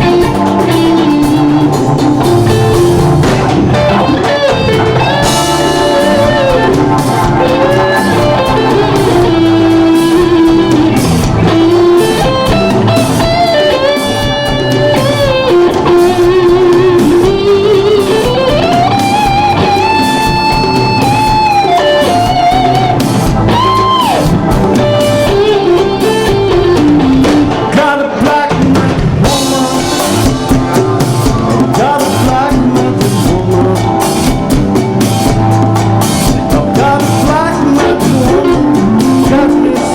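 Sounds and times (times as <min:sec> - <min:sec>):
drum kit: 0:00.0 - 0:39.9
electric guitar lead: 0:00.0 - 0:39.9
organ chords: 0:00.0 - 0:39.9.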